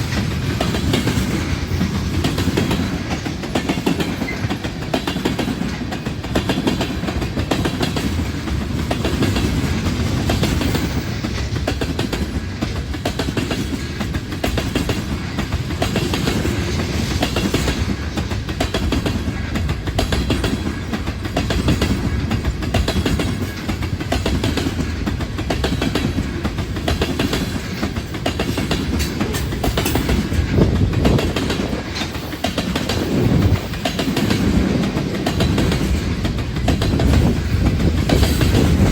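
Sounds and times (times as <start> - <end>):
train rumbling past: 0.0 - 38.9
wheels clacking over rail joints: 0.0 - 38.9.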